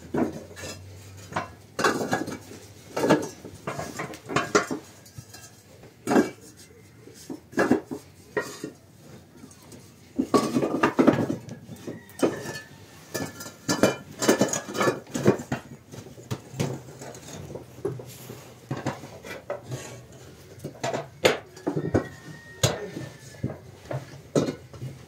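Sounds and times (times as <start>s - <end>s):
clay bricks clinking and knocking: 0.0s - 25.0s.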